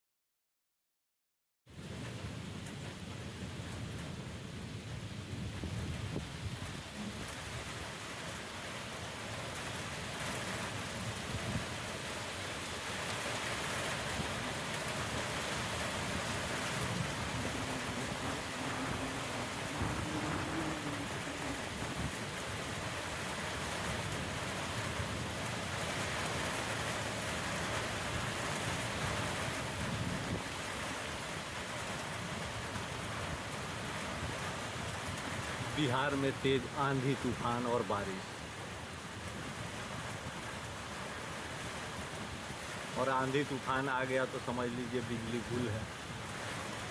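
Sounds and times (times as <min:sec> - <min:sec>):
heavy rain pouring: 0:01.7 - 0:46.9.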